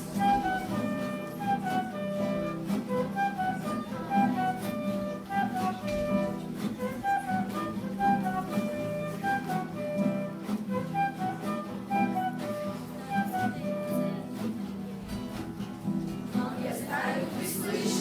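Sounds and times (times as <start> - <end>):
instrumental song melody: 0.0 - 16.2.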